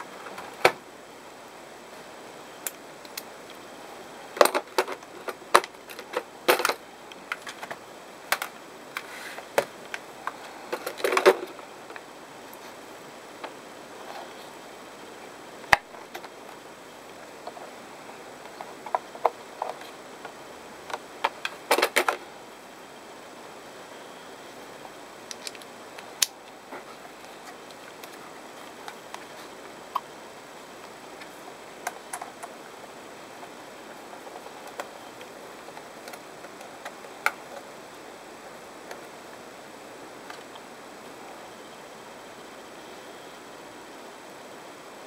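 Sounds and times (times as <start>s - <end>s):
steady low hiss: 0.0s - 45.0s.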